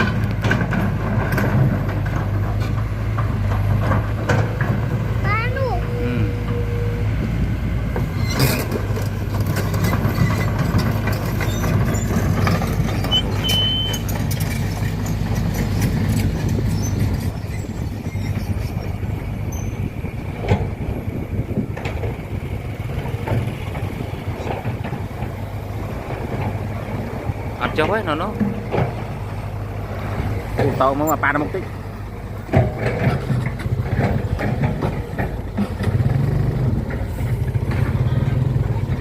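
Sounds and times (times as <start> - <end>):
knocks and clanks: 0.0 - 5.7, 7.9 - 29.4, 30.0 - 39.0
large engine running: 0.0 - 39.0.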